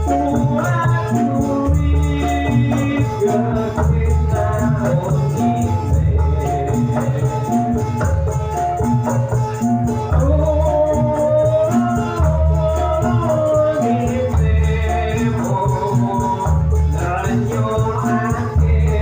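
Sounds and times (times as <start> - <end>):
heavy low drum beats: 0.0 - 19.0
person singing: 0.0 - 19.0.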